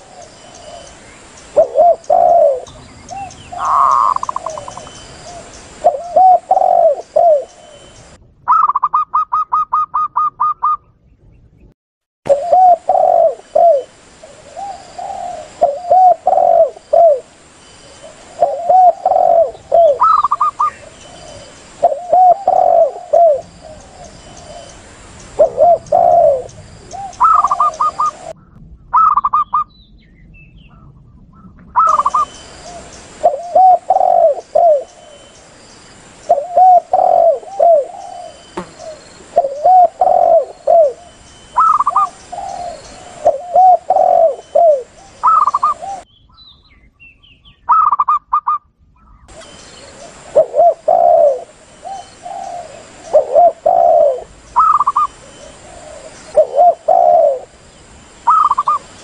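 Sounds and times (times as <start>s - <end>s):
steady background hiss: 0.0s - 9.2s, 12.3s - 48.1s, 48.7s - 59.0s
low rounded dove coos: 0.0s - 10.9s, 12.3s - 29.7s, 30.7s - 35.3s, 36.3s - 46.1s, 47.7s - 57.6s, 58.2s - 59.0s.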